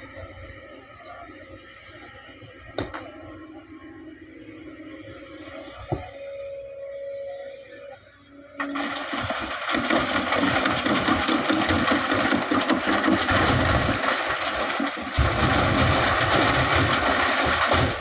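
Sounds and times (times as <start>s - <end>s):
excavator diesel engine working: 0.0s - 18.0s.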